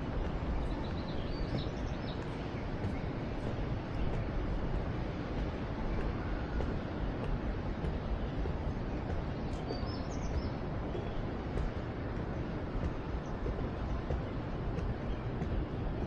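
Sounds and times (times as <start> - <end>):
low outdoor ambient noise: 0.0 - 16.0.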